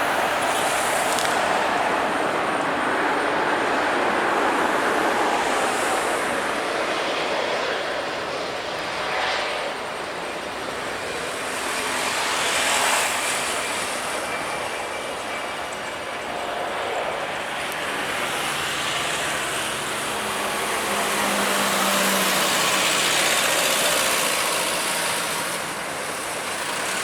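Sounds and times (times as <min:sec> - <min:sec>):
jet engine rushing: 0:00.0 - 0:27.0.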